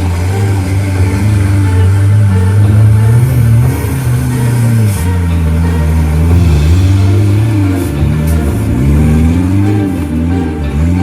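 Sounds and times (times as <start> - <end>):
rock music: 0.0 - 11.0
vehicle engine revving: 0.0 - 11.0.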